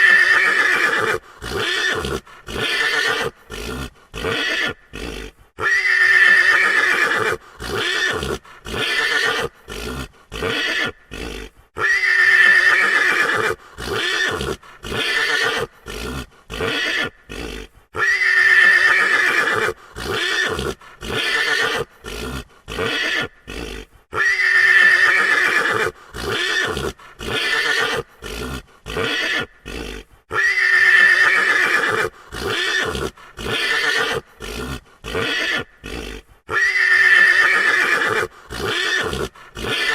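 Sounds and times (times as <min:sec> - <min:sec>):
horse whinnying: 0:00.0 - 0:39.9.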